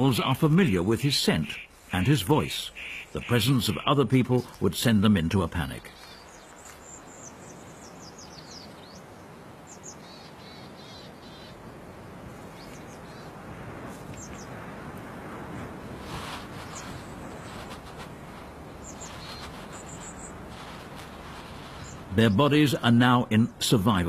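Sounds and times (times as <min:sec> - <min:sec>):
steady outdoor hiss: 0:00.0 - 0:24.0
small birds chirping: 0:00.7 - 0:13.4, 0:14.0 - 0:14.7, 0:15.6 - 0:23.6.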